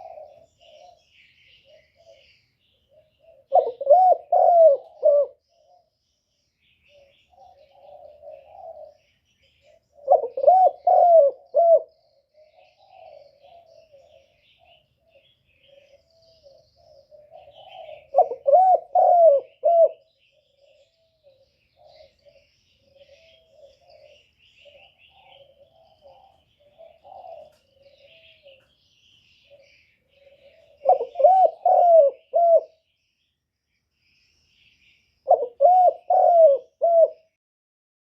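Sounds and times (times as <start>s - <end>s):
dove cooing: 0.0s - 5.9s, 6.8s - 32.8s, 35.2s - 37.4s
small birds chirping: 0.0s - 37.4s.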